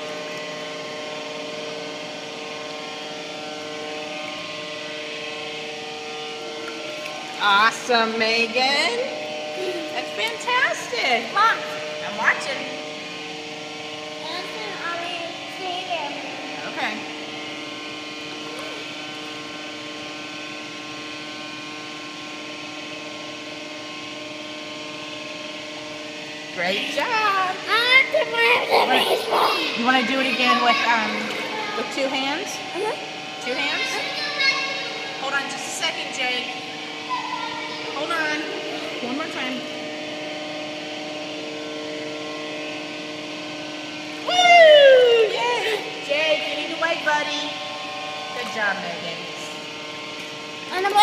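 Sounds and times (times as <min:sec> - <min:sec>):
machinery humming: 0:00.0 - 0:51.0.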